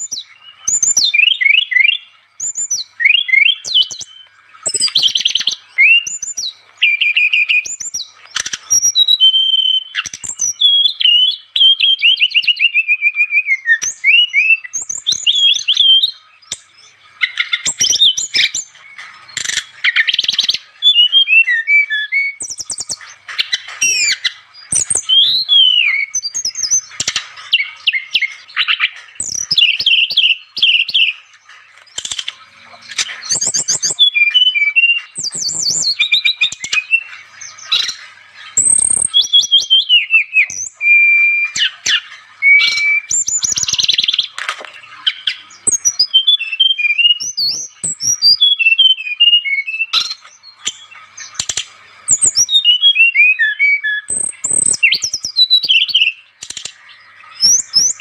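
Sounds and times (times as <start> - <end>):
songbird singing trills and whistles: 0.0 - 58.0.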